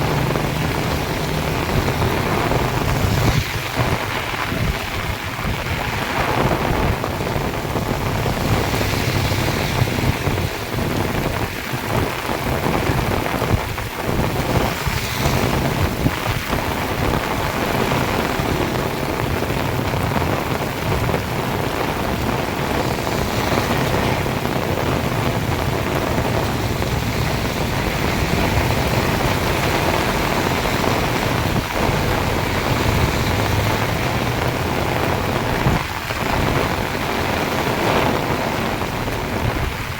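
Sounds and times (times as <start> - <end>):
low rumble: 0.0 - 11.4, 14.1 - 39.7
heavy rain downpour: 0.0 - 39.9.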